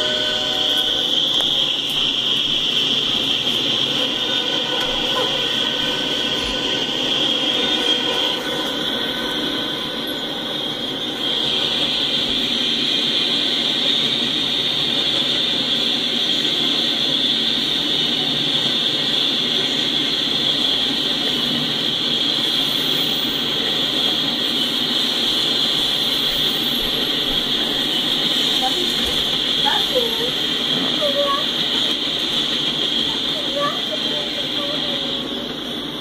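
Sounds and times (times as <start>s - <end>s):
freight train cars rolling: 0.0s - 36.0s
high-pitched whine: 0.0s - 36.0s.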